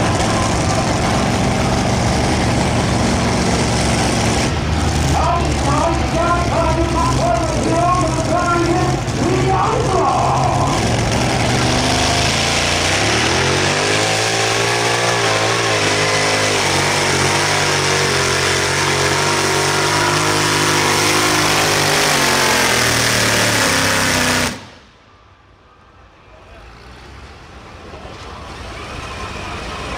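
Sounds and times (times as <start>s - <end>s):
tractor engine running hard: 0.0s - 25.0s.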